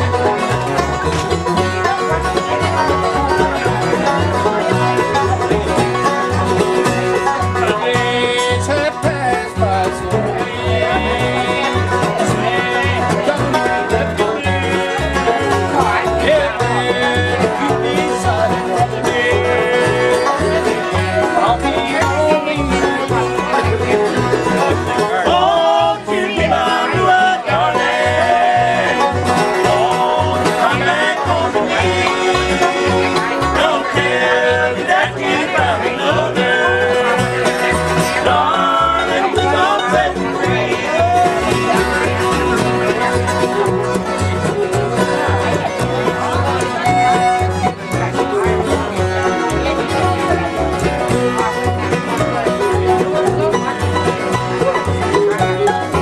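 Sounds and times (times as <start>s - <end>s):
acoustic guitars: 0.0s - 56.0s
banjo: 0.0s - 56.0s
fiddle: 0.0s - 56.0s
upright bass: 0.0s - 56.0s.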